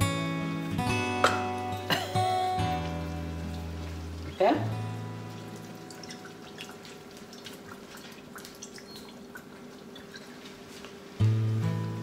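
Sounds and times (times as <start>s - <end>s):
faint background music: 0.0s - 12.0s
liquid simmering in a frying pan: 1.4s - 12.0s.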